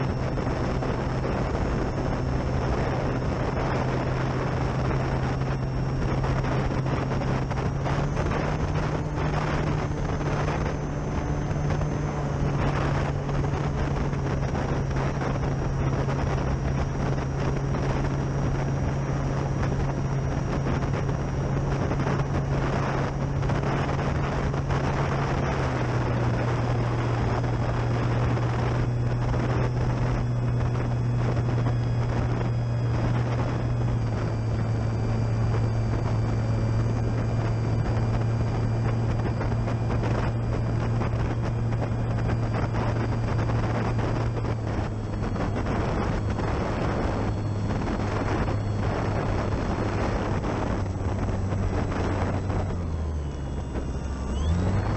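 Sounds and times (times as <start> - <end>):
model plane motor and propeller: 0.0 - 54.9
wind on microphone: 0.0 - 54.9.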